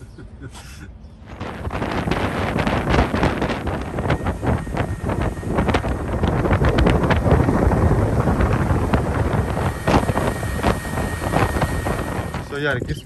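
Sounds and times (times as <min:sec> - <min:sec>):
wind buffeting microphone: 0:01.1 - 0:13.0.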